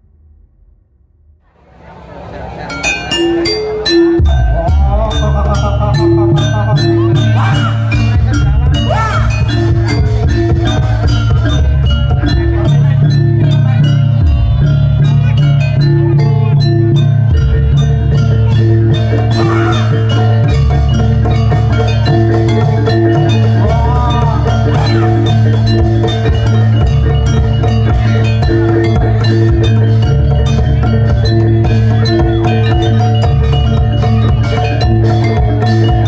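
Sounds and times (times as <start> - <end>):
bronze mallet instruments: 1.7 - 36.0.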